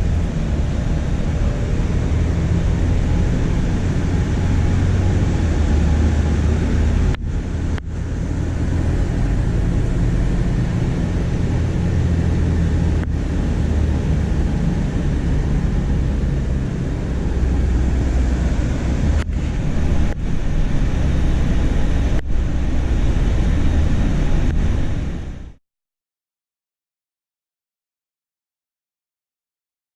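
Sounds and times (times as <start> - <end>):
diesel engine rumbling: 0.0 - 25.6.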